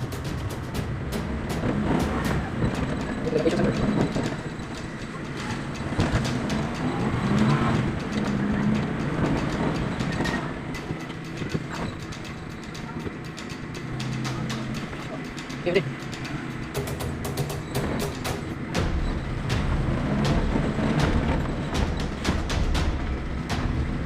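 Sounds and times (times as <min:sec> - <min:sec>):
car engine and road rumble: 0:00.0 - 0:24.0
knocks and rattles from bumps: 0:00.0 - 0:24.0.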